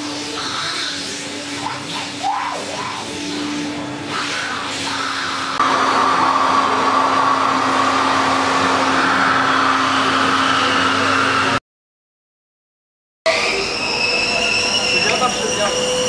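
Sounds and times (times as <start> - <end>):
vacuum cleaner running: 0.0 - 11.6, 13.3 - 16.0.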